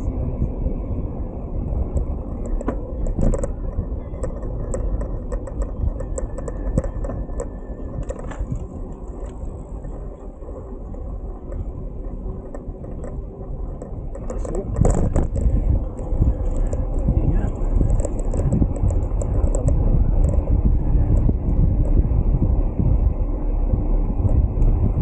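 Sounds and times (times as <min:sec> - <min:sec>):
wind rumbling over microphone: 0:00.0 - 0:25.0
bicycle clicks and rattles: 0:01.9 - 0:23.5.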